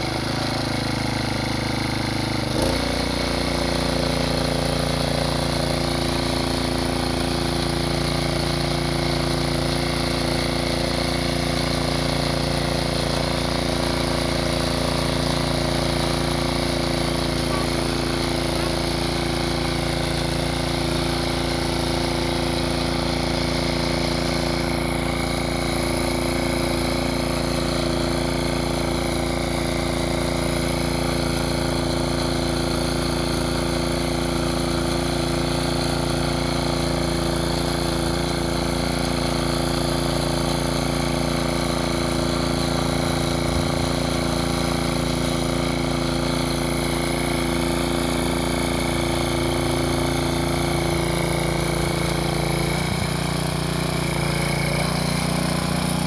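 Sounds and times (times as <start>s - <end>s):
small petrol engine under load: 0.0s - 56.0s.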